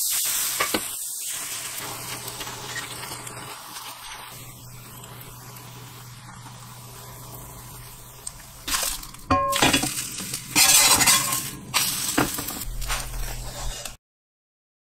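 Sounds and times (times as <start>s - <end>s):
pancake sizzling in oil: 0.0s - 13.9s.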